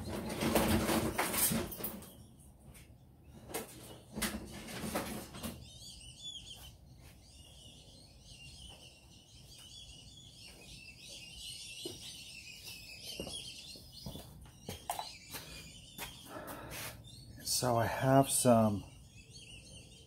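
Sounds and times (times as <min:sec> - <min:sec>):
birds twittering: 0:00.0 - 0:20.0.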